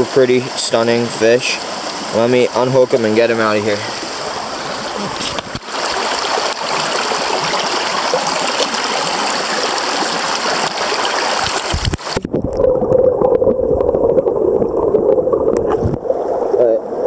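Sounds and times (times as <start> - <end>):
stream running over rocks: 0.0 - 16.8
muffled underwater stream rush: 0.0 - 17.0.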